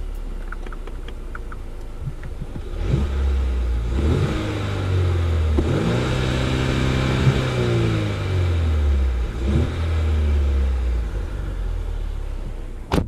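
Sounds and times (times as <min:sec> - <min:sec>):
car engine revving: 0:00.0 - 0:12.9.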